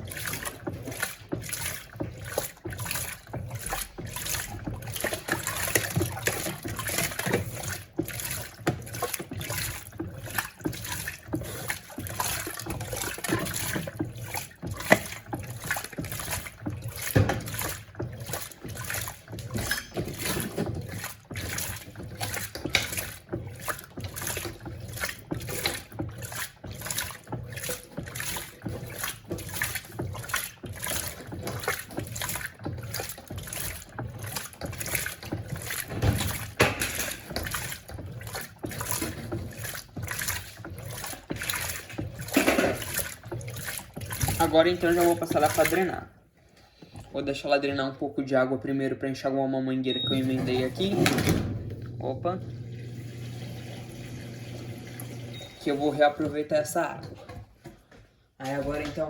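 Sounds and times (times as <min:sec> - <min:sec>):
washing machine water sloshing: 0:00.0 - 0:59.0.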